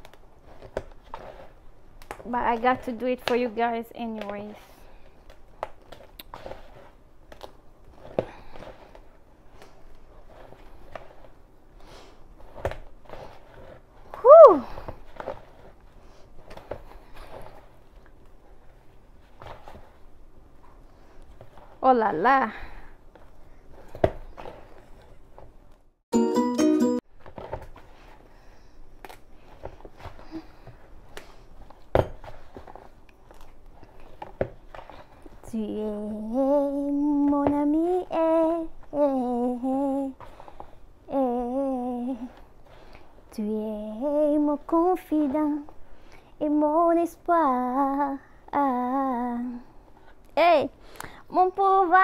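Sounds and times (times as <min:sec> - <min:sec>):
hands kneading dough: 0:00.0 - 0:25.9, 0:27.1 - 0:52.0.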